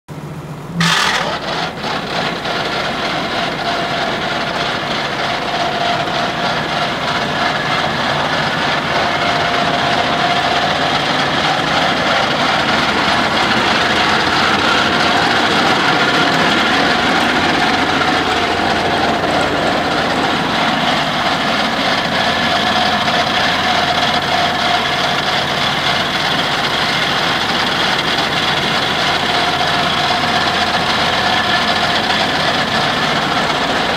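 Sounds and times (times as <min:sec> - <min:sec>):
disc mower drone and whine: 0:00.1 - 0:33.9
tractor engine: 0:00.1 - 0:33.9.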